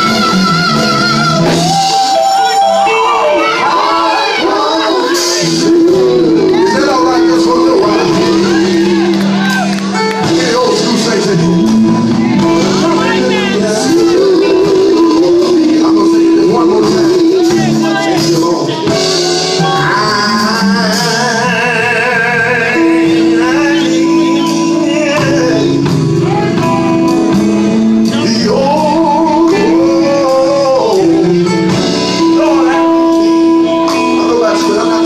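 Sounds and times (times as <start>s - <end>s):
instrumental backing: 0.0s - 35.0s
singers performing a hymn: 0.0s - 35.0s.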